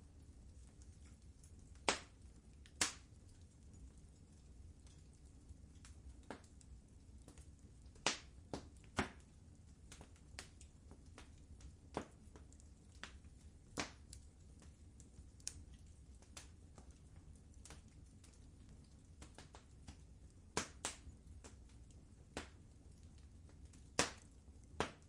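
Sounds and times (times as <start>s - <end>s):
low rumble of fire: 0.0s - 25.0s
wood fire crackling: 0.0s - 25.0s.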